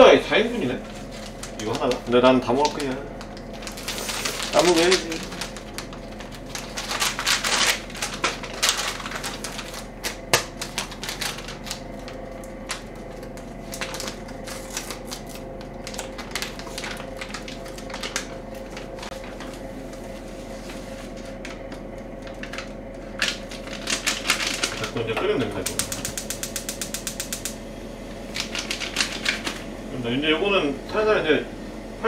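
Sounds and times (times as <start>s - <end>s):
air fryer humming: 0.0s - 32.0s
utensils and packaging clicking: 0.9s - 19.5s, 21.2s - 27.6s, 28.4s - 29.6s.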